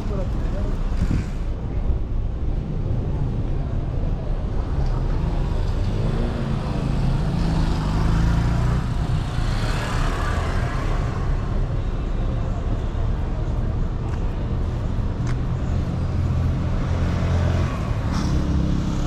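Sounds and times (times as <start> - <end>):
traffic passing: 0.0 - 19.0.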